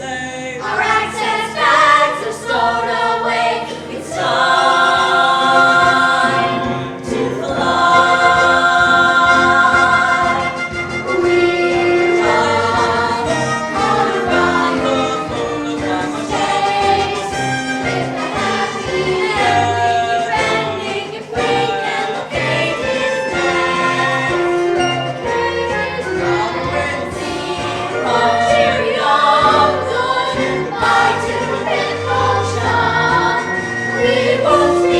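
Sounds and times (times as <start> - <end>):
chorus singing musical number: 0.0 - 34.9
musical accompaniment: 0.0 - 34.9.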